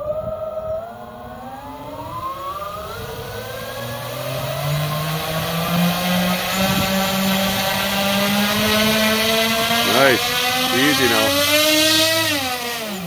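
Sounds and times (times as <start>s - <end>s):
electric motors and propellers whining: 0.0s - 13.0s.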